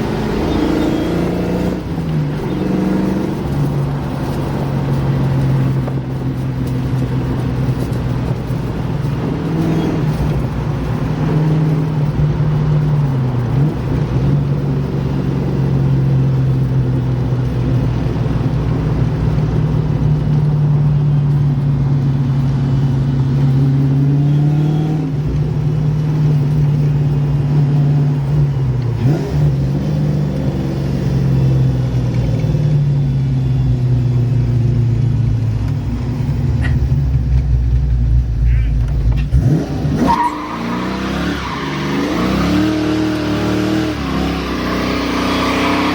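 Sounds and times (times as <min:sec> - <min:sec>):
car engine pulling: 0:00.0 - 0:45.9.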